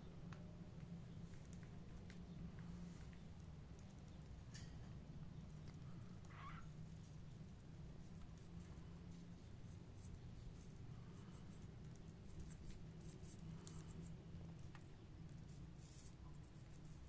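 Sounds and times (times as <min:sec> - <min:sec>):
faint scratching and clicking: 0:00.0 - 0:17.0
low steady hum: 0:00.0 - 0:17.0.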